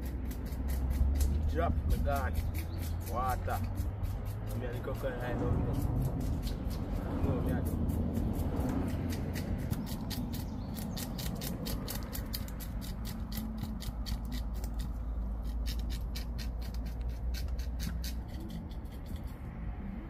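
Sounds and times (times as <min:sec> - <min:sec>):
blade scraping fish scales: 0:00.0 - 0:19.5.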